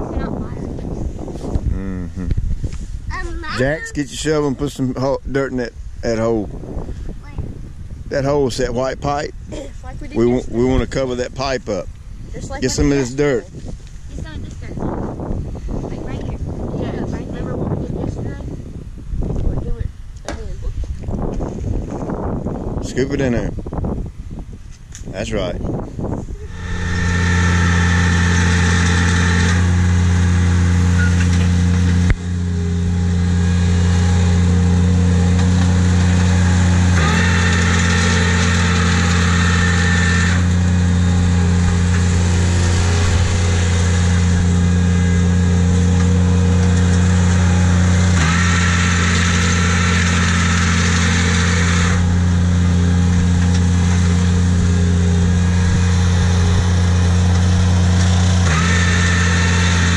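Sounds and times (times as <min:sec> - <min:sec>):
higher whine: 0:00.0 - 0:19.8, 0:25.3 - 0:59.9
engine running steadily: 0:00.0 - 0:59.9.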